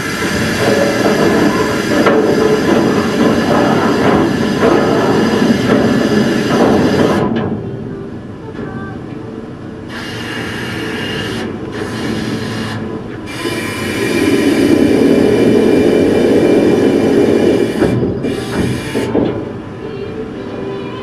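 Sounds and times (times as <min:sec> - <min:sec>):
ship engine rumble: 0:00.0 - 0:21.0.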